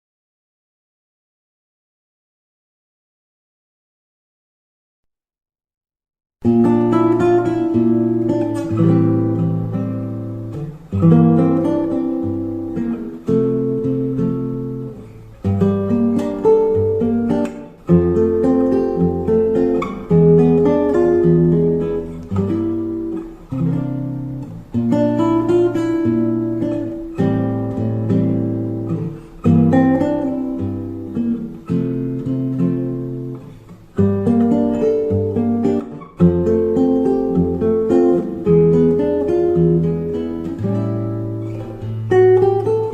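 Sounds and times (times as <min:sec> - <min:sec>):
acoustic guitar chords: 0:06.4 - 0:42.9.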